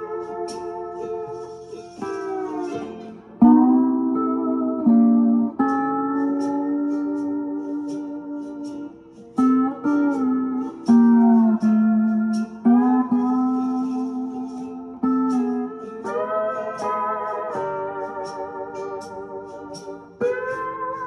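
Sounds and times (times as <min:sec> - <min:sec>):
backing track: 0:00.0 - 0:21.0
lap steel guitar chords: 0:00.0 - 0:21.0.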